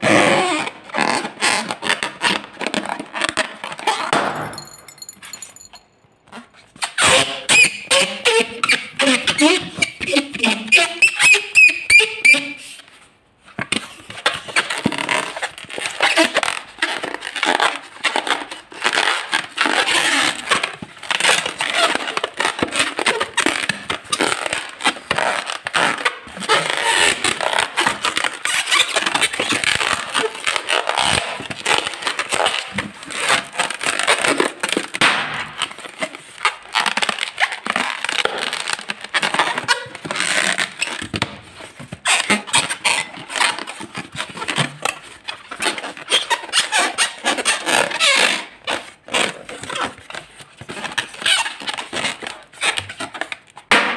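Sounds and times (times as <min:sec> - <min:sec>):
rubber balloons squeaking: 0:00.0 - 0:04.6, 0:06.2 - 0:12.9, 0:14.3 - 0:53.6.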